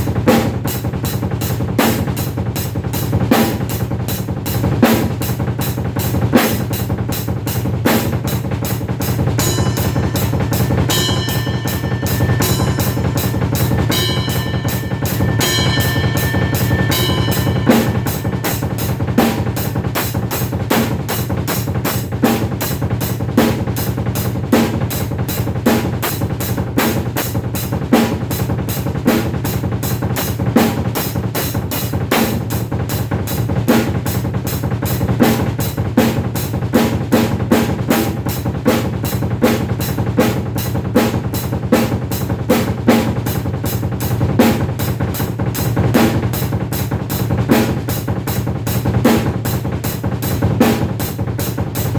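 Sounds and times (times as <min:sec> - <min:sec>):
drum kit fast groove: 0:00.0 - 0:51.9.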